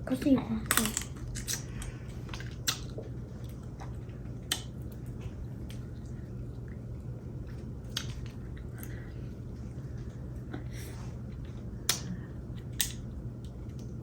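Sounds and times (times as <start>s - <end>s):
wet squishing eating: 1.2s - 14.0s.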